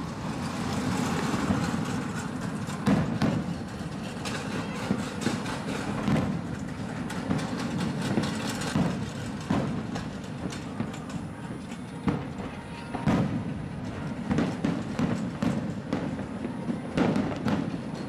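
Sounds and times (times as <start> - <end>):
fireworks bursting: 0.0 - 18.0
sharp firework bangs: 0.9 - 11.4, 12.0 - 18.0.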